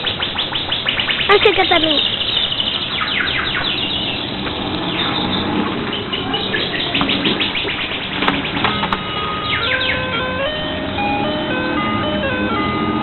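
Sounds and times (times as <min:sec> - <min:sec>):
high downward-sliding chirps: 0:00.0 - 0:13.0.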